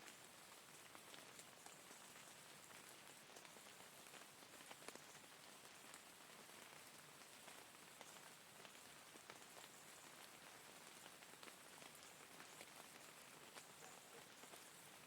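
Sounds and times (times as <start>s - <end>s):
faint rain falling: 0.0s - 15.0s
raindrops ticking on a surface: 0.0s - 15.0s.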